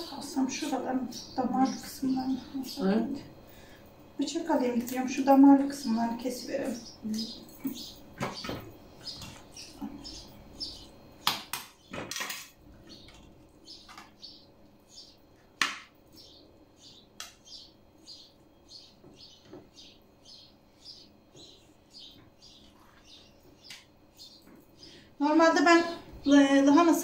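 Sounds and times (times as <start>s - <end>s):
small bird chirping: 0.0s - 3.7s, 5.2s - 11.9s, 12.7s - 15.4s, 16.0s - 25.1s.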